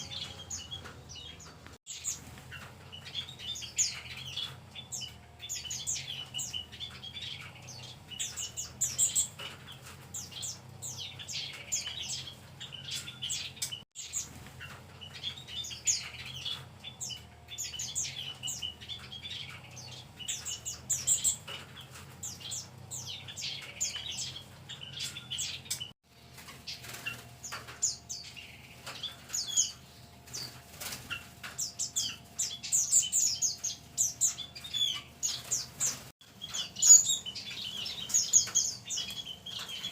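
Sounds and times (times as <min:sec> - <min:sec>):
wings fluttering: 0:00.0 - 0:32.8, 0:33.5 - 0:39.9
songbirds chirping: 0:00.0 - 0:39.9.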